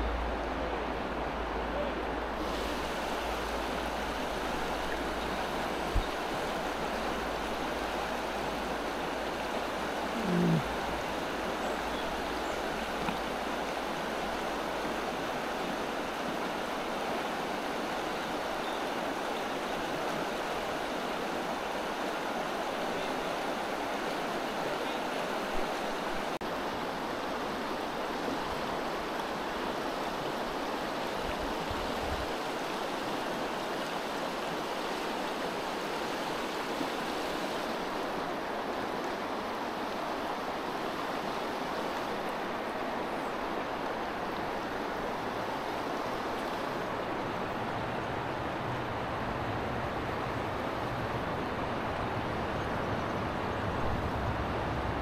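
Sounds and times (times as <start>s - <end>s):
river water rushing over stones: 0.0s - 55.0s.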